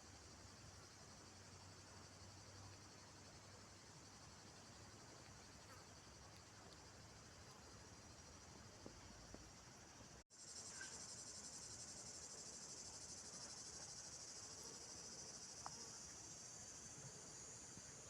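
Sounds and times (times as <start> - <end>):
insects trilling: 0.1 - 18.0.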